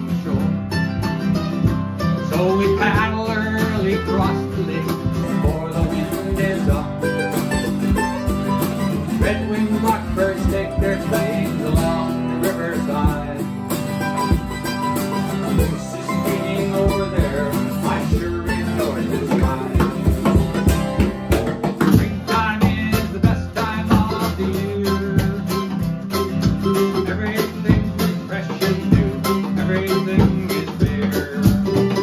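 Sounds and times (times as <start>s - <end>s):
picked mandolin: 0.0s - 32.0s
strummed acoustic guitar: 0.0s - 32.0s
drum beat with cymbal: 5.0s - 24.3s, 25.2s - 32.0s.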